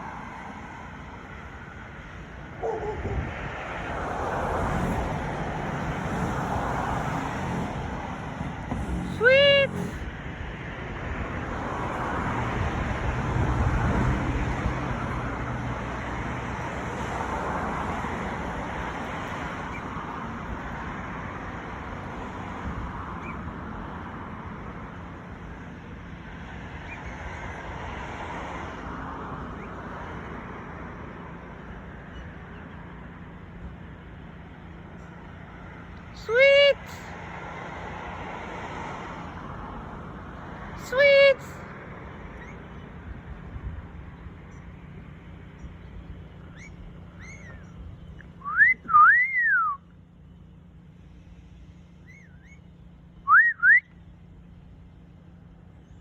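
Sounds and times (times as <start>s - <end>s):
vehicle passing: 0.0s - 55.8s
tyre and engine noise: 0.0s - 56.0s.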